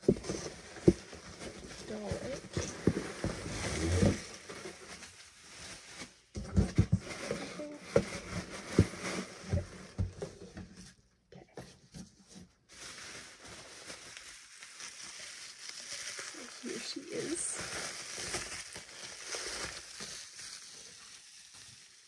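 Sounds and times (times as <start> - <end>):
plastic wrapping rustling: 0.0 - 11.2, 11.8 - 22.0.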